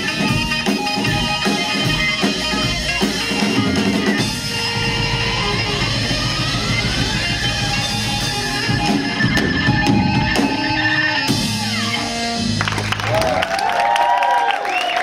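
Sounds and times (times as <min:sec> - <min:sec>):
rock band playing: 0:00.0 - 0:14.2
crowd cheering: 0:00.3 - 0:15.0.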